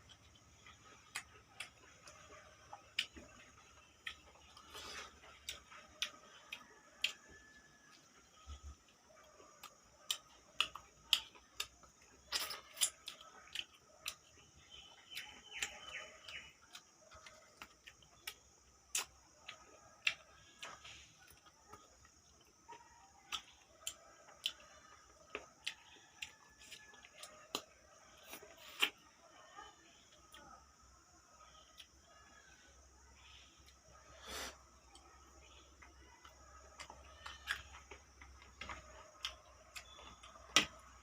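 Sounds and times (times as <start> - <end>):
chewing and lip smacks: 0.0 - 29.1, 35.8 - 41.0.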